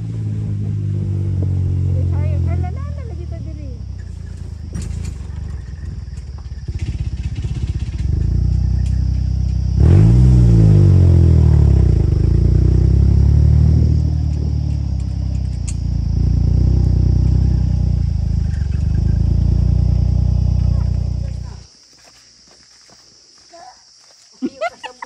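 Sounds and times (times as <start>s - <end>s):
vehicle engine revving: 0.0s - 21.7s.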